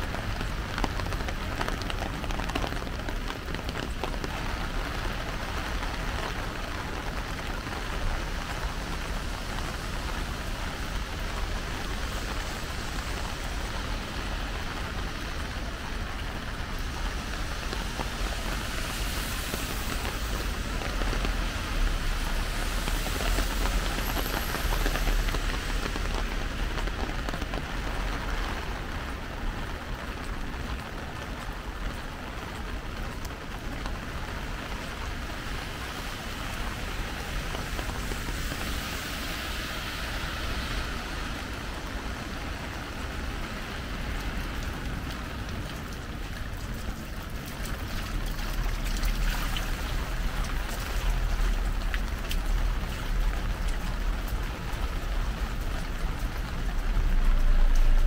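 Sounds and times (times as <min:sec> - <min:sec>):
rain on wet pavement: 0:00.0 - 0:58.0
car tyres hissing on wet road: 0:00.1 - 0:58.0.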